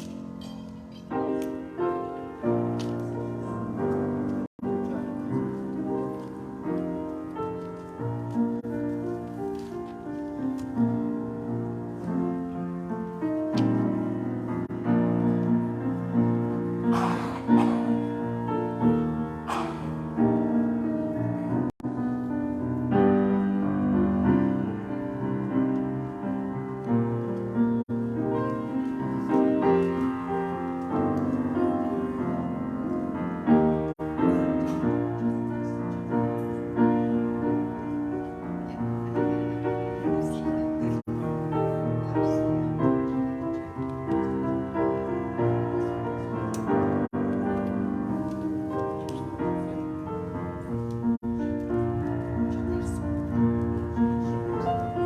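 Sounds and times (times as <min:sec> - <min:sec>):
slow piano music: 0:00.0 - 0:55.0.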